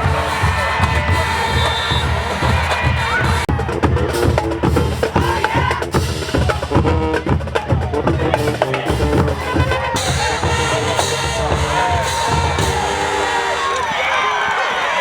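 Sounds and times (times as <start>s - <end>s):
held horn notes: 0.0s - 5.4s, 6.5s - 14.7s
rapid rhythmic drumming: 0.0s - 15.0s.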